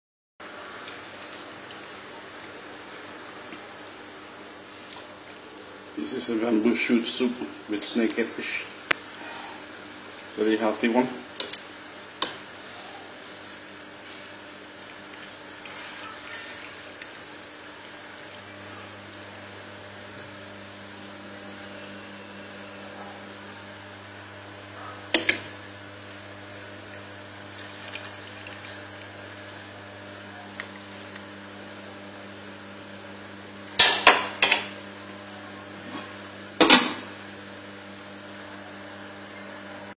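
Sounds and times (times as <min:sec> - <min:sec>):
steady low hum: 0:02.0 - 0:40.0.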